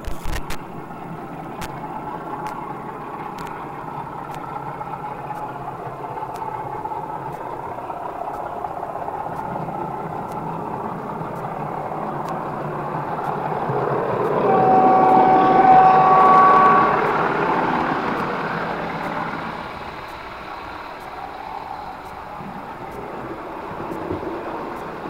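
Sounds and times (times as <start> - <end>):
model train motor hum: 0.0 - 25.0
train wheel rumble: 0.0 - 25.0.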